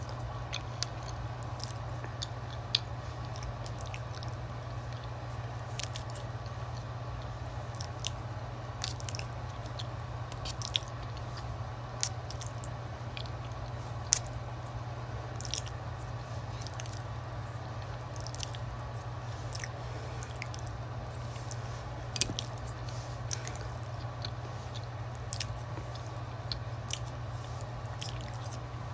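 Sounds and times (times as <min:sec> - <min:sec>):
steady low hum: 0:00.0 - 0:28.9
wet squishy chewing: 0:00.0 - 0:28.9.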